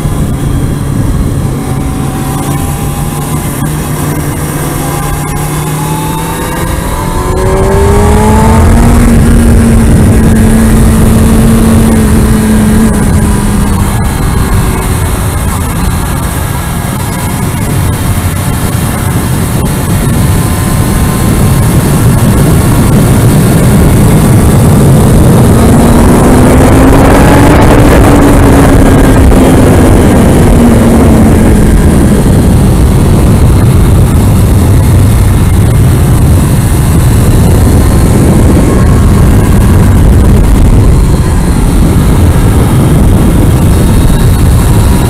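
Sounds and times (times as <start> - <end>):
motorcycle engine at speed: 0.0 - 45.0
wind rushing over microphone: 0.0 - 45.0.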